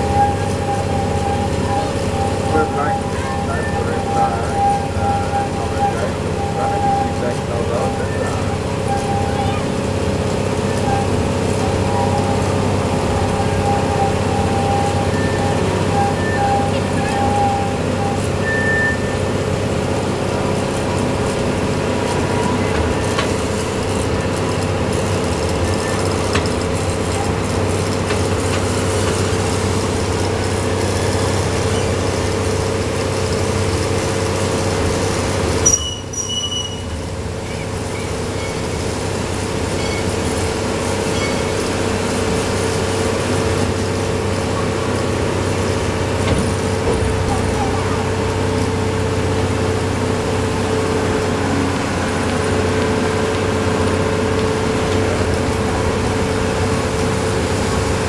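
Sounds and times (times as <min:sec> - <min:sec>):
small train running on track: 0:00.0 - 0:58.0.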